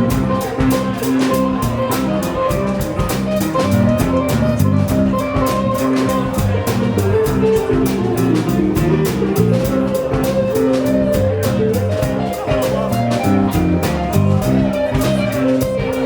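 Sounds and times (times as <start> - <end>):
bass line: 0.0 - 16.0
drum kit beat: 0.0 - 16.0
guitar: 0.0 - 16.0.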